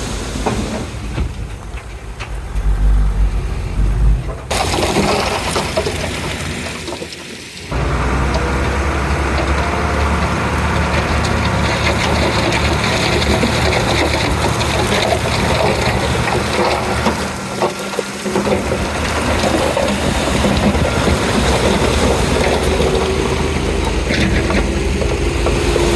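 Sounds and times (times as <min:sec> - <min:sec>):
bulldozer diesel engine droning: 0:00.0 - 0:25.9.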